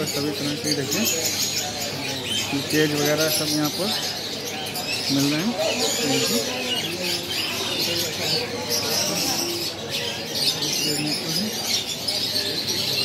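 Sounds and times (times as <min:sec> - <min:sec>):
people talking: 0:00.0 - 0:13.0
small birds chirping: 0:00.0 - 0:13.0.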